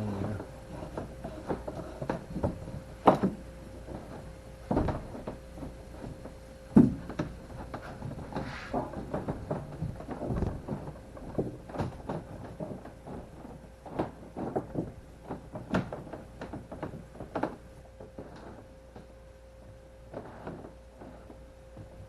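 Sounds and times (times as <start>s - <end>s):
knocks and scrapes of rigging gear: 0.0s - 19.1s, 20.1s - 22.0s.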